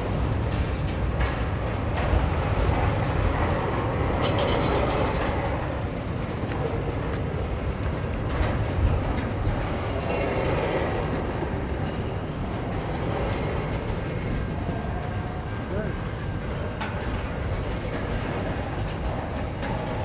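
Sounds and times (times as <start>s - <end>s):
train wheels rumbling on rail: 0.0s - 20.0s
wheels clicking over rail joints: 0.0s - 20.0s.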